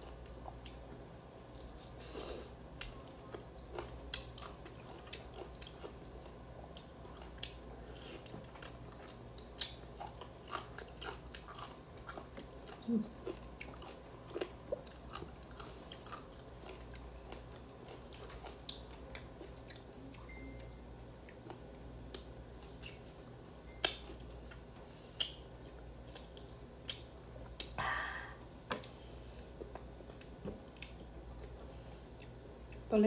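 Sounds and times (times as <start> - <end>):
person chewing crisp fruit: 0.0 - 0.9, 1.5 - 32.9.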